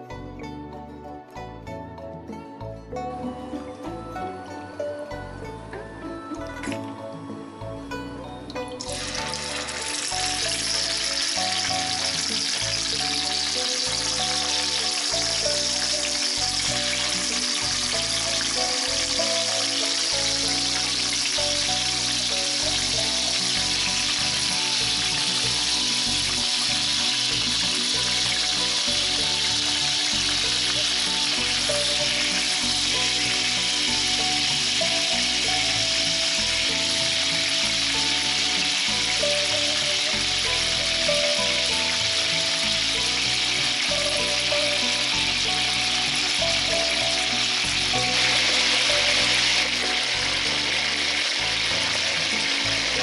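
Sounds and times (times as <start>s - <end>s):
chicken sizzling in hot oil: 8.8s - 53.0s.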